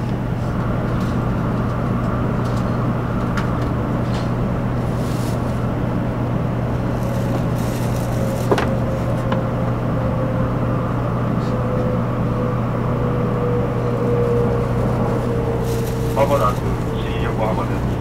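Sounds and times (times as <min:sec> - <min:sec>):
train cabin hum and rush: 0:00.0 - 0:18.0.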